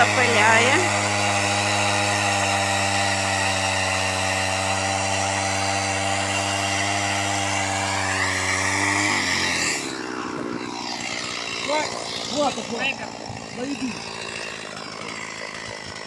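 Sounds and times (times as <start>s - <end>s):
chainsaw cutting through ice: 0.0s - 16.0s.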